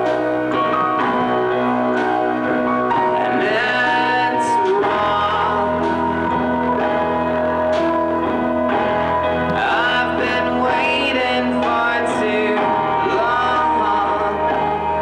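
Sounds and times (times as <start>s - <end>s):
held instrumental notes: 0.0s - 15.0s
person singing: 0.0s - 15.0s.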